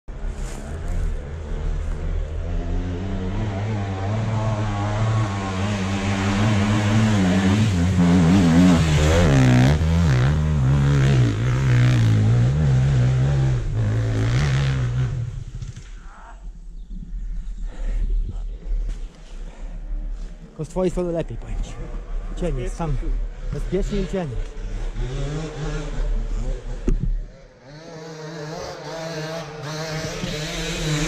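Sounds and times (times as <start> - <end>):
dirt bike engine revving: 0.1 - 16.0, 21.6 - 31.0.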